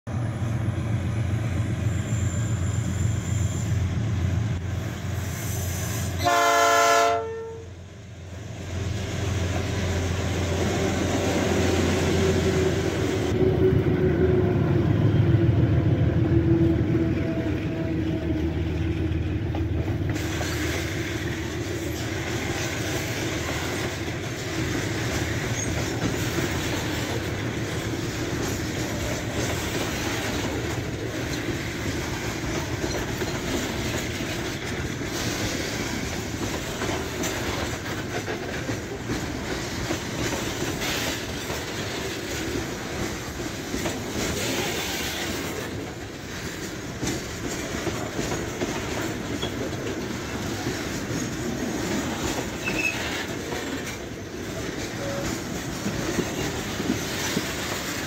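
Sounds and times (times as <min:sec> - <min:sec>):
steel wheels rumbling on rails: 0:00.1 - 0:58.0.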